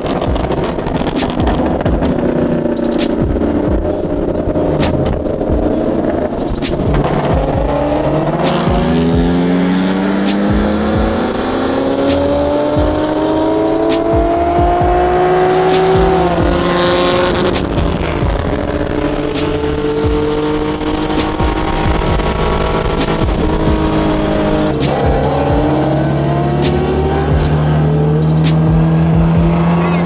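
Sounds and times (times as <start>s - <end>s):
sports car engine accelerating: 0.0s - 30.0s.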